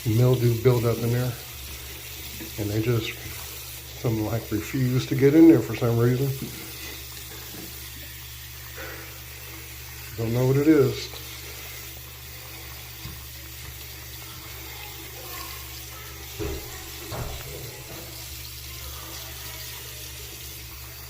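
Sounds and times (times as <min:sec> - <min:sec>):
faucet running into basin: 0:00.0 - 0:21.0.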